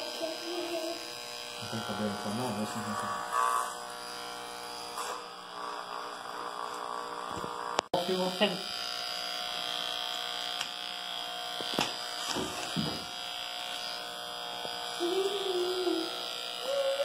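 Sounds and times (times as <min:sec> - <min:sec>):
electric hair clipper buzzing: 0:00.0 - 0:17.0.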